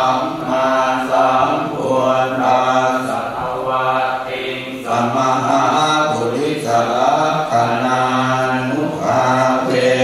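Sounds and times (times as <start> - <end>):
voices chanting on level pitch: 0.0 - 10.0.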